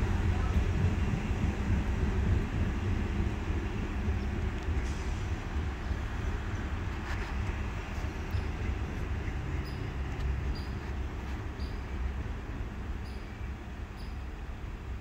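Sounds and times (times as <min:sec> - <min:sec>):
low rumble of train: 0:00.0 - 0:15.0.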